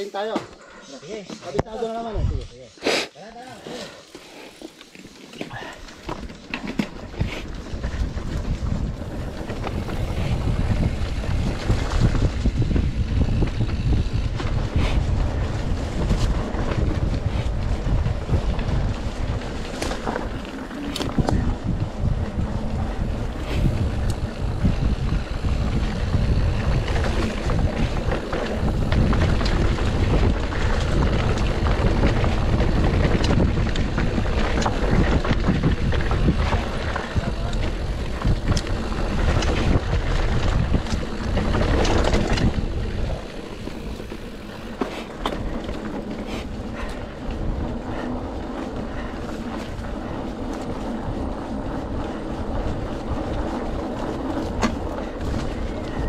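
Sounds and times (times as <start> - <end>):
wind rumble on microphone: 1.6 - 2.7, 5.5 - 56.0
bike rattling over rough ground: 3.4 - 56.0.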